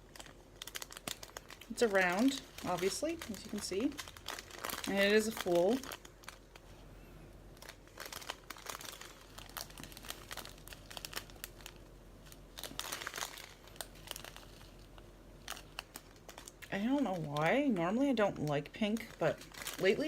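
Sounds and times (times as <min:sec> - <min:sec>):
plastic bags crinkling: 0:00.0 - 0:06.8, 0:07.5 - 0:20.0.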